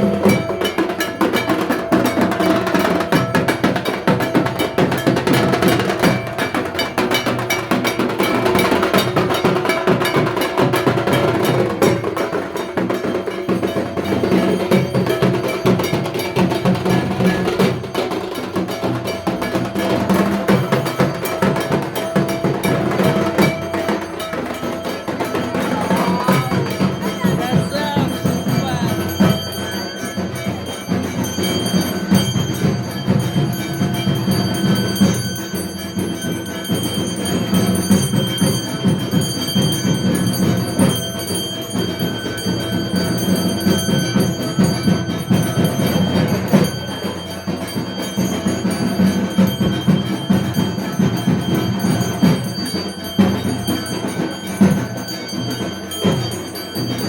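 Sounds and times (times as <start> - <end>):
music with bells and percussion: 0.0 - 57.0.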